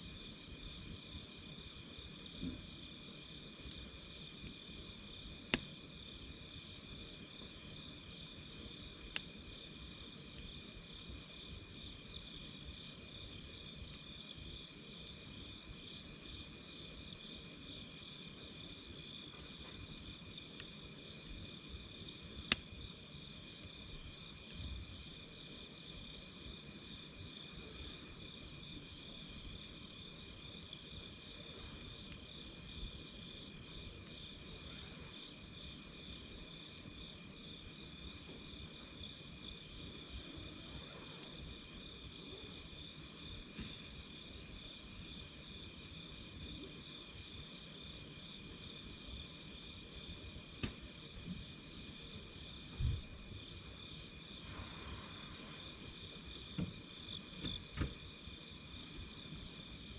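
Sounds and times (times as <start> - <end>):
fire crackling: 0.0 - 59.9
fire popping: 0.0 - 59.9
insect trill: 0.0 - 59.9.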